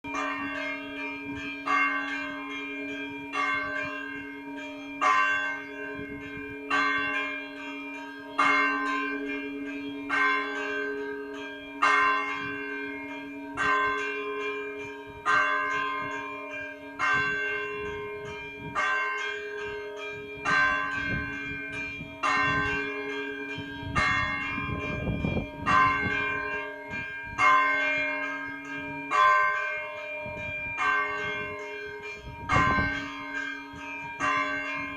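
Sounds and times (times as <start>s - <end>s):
church bell tolling: 0.0s - 34.9s.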